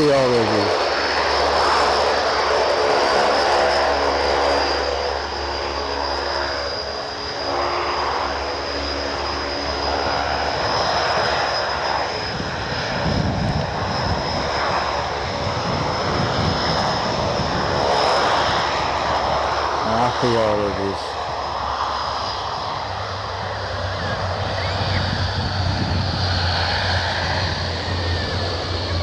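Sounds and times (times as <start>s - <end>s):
high engine whine: 0.0s - 29.0s
jet engines at take-off power: 0.0s - 29.0s.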